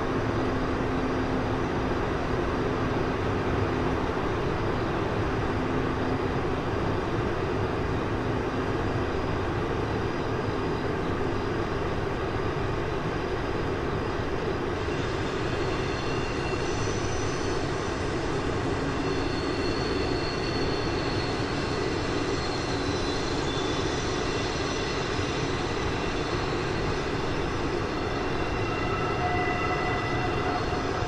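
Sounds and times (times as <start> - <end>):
freight train rumbling roar: 0.0 - 31.0.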